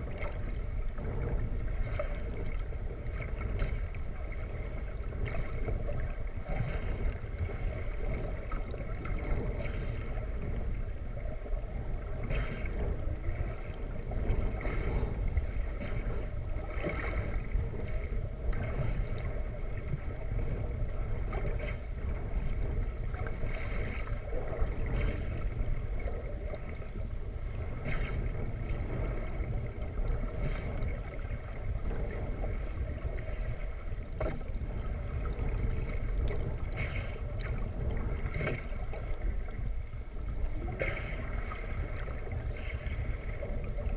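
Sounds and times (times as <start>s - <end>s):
faint underwater crackles: 0.0s - 43.9s
muffled underwater rumble: 0.0s - 43.9s.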